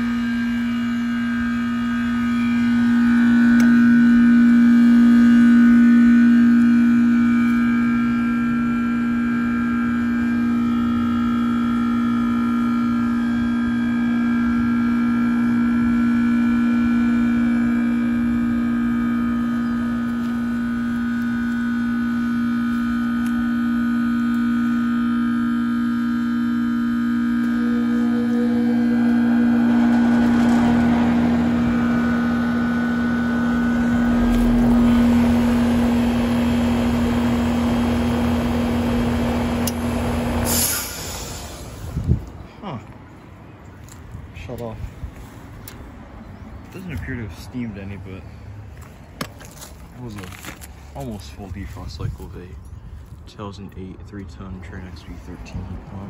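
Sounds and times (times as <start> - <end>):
heat pump compressor humming: 0.0 - 56.0.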